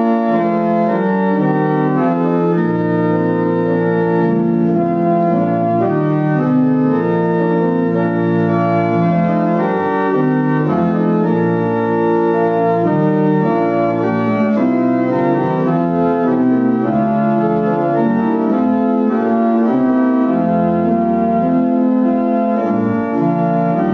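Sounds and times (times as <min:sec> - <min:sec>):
organ playing sustained chords: 0:00.0 - 0:23.9.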